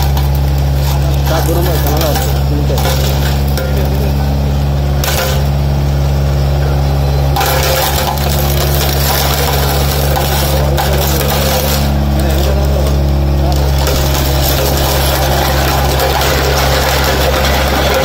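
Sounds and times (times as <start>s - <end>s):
glass bottles crunching and cracking: 0.0s - 5.9s, 7.2s - 18.0s
road roller engine running: 0.0s - 18.0s.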